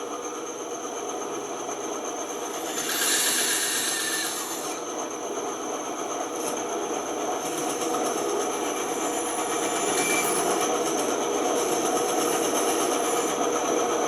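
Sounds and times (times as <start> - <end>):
band saw whirring: 1.0 - 14.0.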